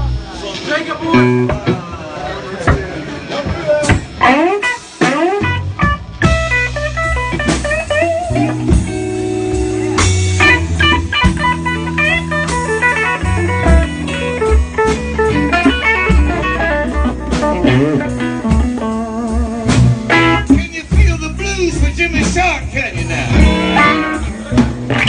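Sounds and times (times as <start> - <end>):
blues band playing: 0.0 - 25.0
guitar lead with bent notes: 0.0 - 25.0.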